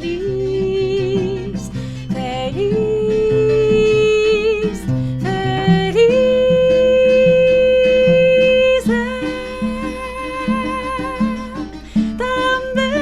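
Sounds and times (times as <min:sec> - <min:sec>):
held melody notes: 0:00.0 - 0:13.0
plucked guitar accompaniment: 0:00.0 - 0:13.0.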